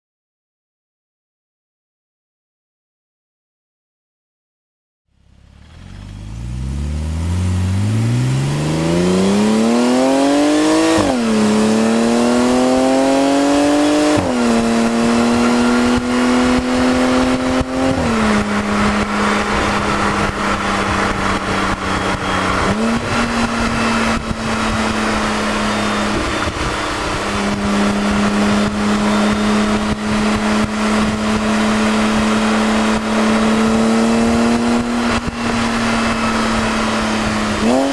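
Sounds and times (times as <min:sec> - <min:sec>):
sports car accelerating hard: 0:05.2 - 0:37.9.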